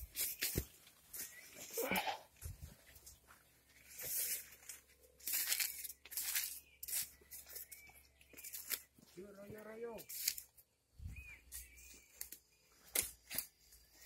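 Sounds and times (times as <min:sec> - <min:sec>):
plants rustling against someone walking: 0:00.0 - 0:14.0.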